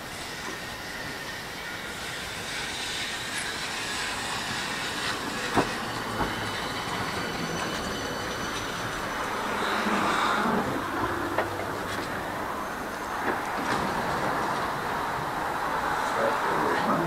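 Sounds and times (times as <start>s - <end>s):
tram running on track: 0.0s - 17.0s.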